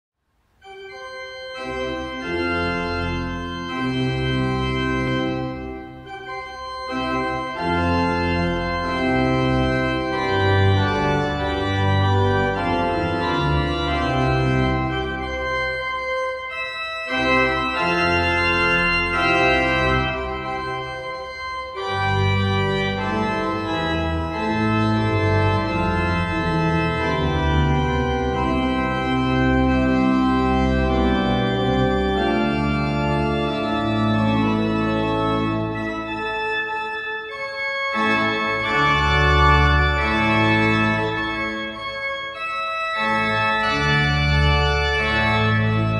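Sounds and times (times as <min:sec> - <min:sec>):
church pipe organ playing chords: 0:00.5 - 0:45.9.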